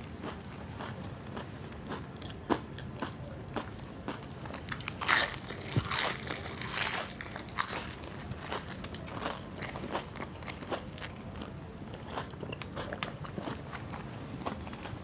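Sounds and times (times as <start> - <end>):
person chewing crunchy fritters: 0.0 - 15.0.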